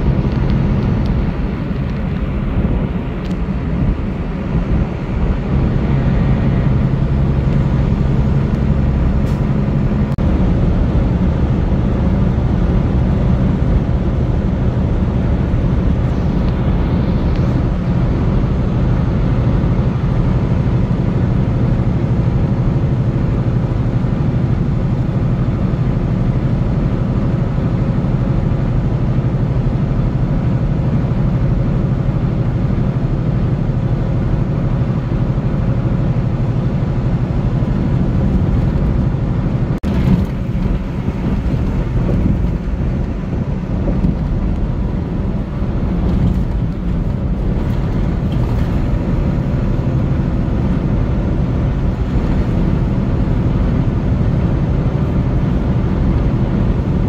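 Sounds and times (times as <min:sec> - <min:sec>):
vehicle engine and tyre drone: 0:00.0 - 0:57.0.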